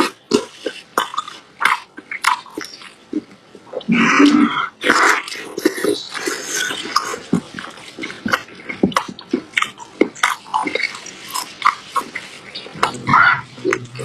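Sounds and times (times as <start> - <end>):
chewing with wet mouth clicks: 0.0 - 14.0.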